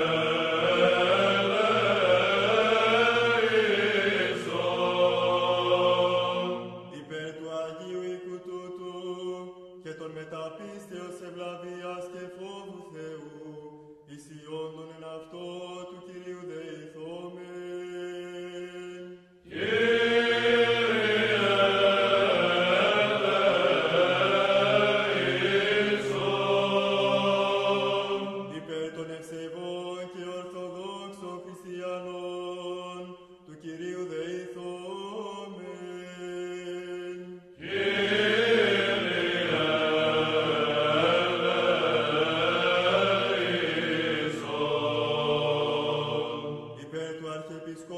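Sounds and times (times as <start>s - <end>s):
choir singing liturgical chant: 0.0s - 47.9s.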